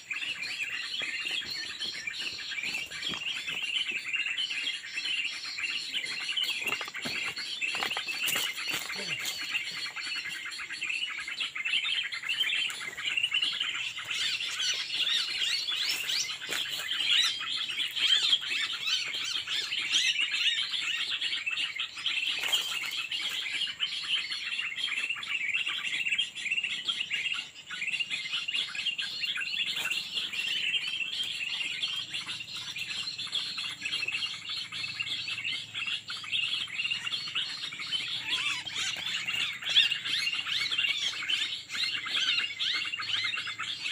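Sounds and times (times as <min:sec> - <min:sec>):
songbirds chirping: 0:00.0 - 0:43.9.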